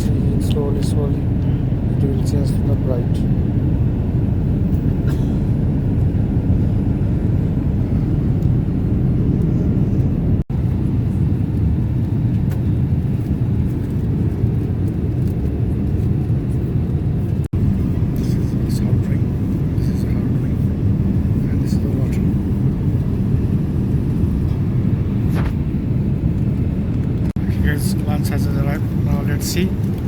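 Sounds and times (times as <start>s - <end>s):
aircraft cabin engine rumble: 0.0s - 30.0s.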